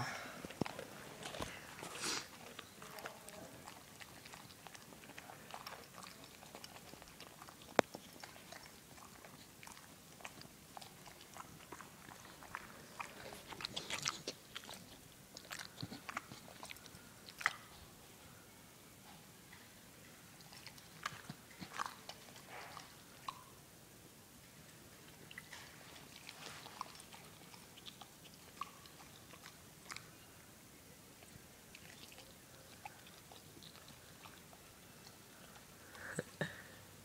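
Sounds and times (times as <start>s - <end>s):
dog chewing crunchily: 0.4s - 17.8s, 20.4s - 23.4s, 25.1s - 30.2s, 31.2s - 35.7s.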